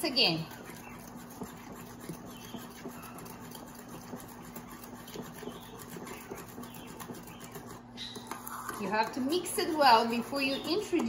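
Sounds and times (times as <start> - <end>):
utensil scraping a bowl: 0.0 - 11.0.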